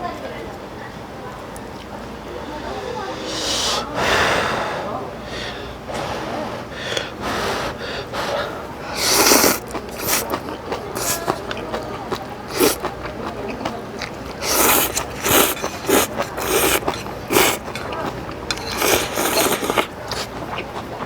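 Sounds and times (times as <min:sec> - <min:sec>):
eating noises: 0:01.3 - 0:21.0
noodles slurped: 0:02.3 - 0:21.0.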